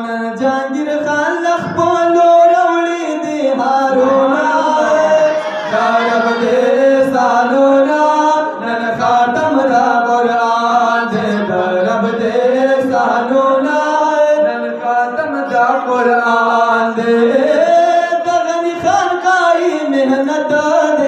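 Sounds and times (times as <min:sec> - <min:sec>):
men singing through microphones: 0:00.0 - 0:21.0.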